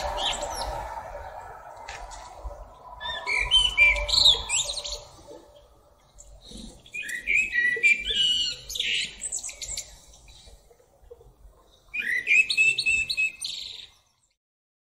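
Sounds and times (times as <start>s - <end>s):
blackbird singing: 0.0s - 14.4s.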